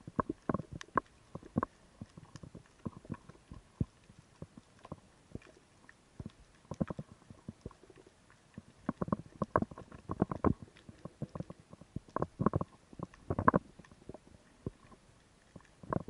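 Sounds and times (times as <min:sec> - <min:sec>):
muffled underwater knocks and clicks: 0:00.0 - 0:05.6, 0:06.2 - 0:16.0.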